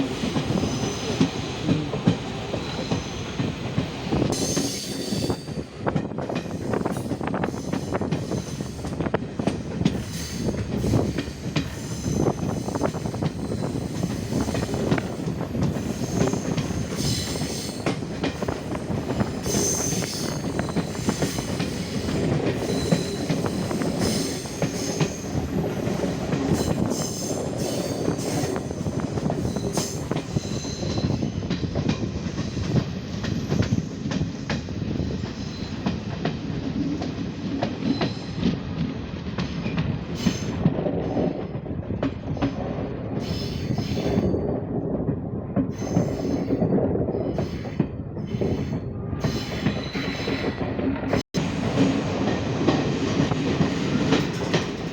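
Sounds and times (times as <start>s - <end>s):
wheels clacking over rail joints: 0.0s - 44.4s, 45.1s - 54.9s
train rumbling on rails: 0.0s - 54.9s.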